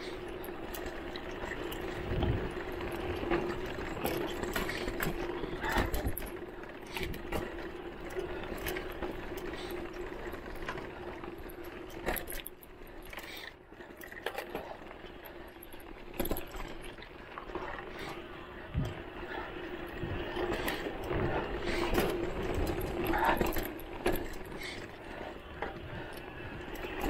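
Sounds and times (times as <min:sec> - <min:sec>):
bike frame knocking and rattling: 0:00.0 - 0:27.0.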